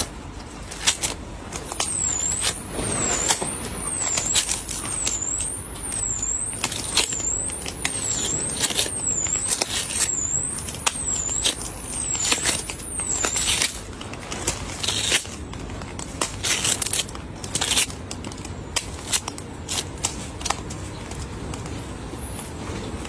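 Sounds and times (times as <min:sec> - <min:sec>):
watermelon flesh crunching: 0:00.0 - 0:21.8.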